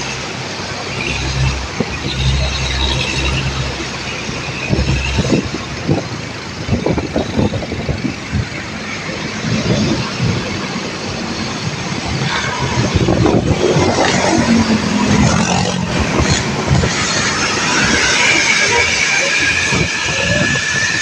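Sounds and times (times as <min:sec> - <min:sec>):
low rumbles and thumps: 0:00.0 - 0:21.0
road traffic: 0:00.0 - 0:21.0.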